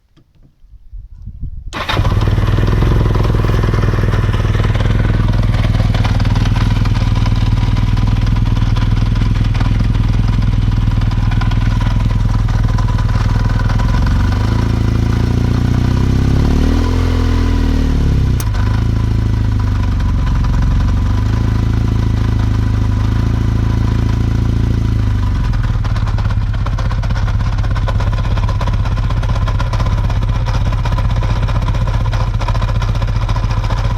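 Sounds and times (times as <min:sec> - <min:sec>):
motorcycle engine starting and revving: 0:01.7 - 0:33.9.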